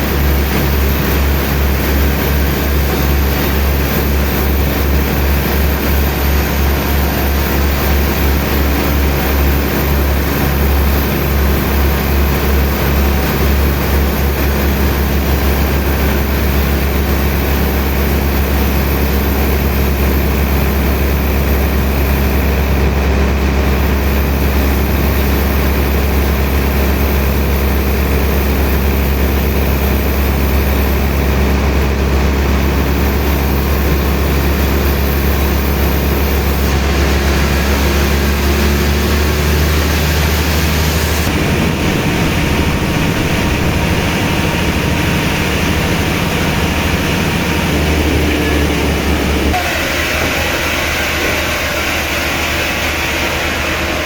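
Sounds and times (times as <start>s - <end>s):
heavy machinery humming: 0.0s - 54.0s.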